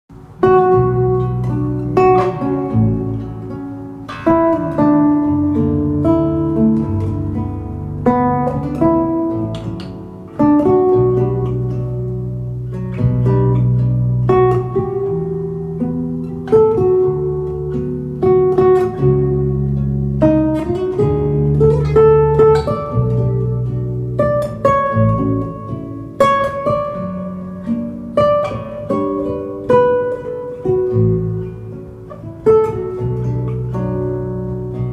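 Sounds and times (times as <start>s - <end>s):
classical guitar fingerstyle: 0.1s - 34.9s.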